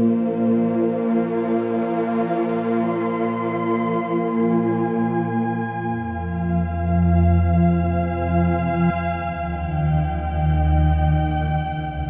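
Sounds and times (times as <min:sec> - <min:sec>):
synthesizer pad chord: 0:00.0 - 0:12.0.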